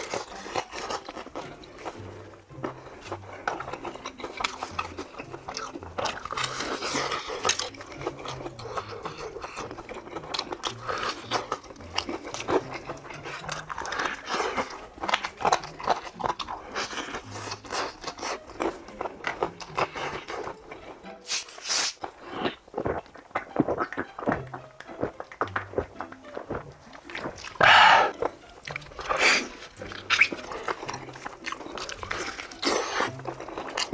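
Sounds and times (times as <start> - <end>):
chewing: 0.0 - 33.9
crunching bites of fried chicken: 0.0 - 33.9.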